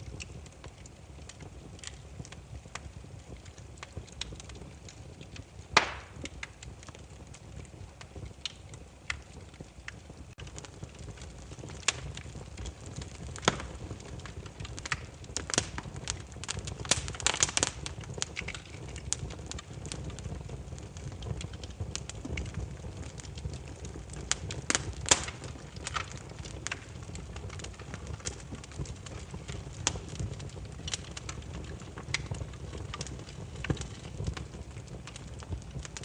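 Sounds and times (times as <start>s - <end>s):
firewood crackling: 0.0s - 36.0s
low rumble of flames: 0.0s - 36.0s.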